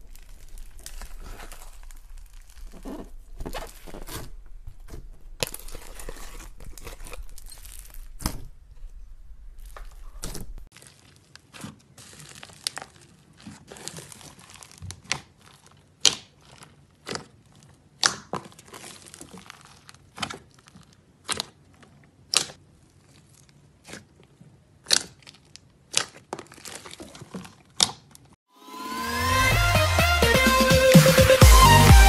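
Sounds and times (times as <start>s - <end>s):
slime crinkling and crunching: 0.0s - 28.3s.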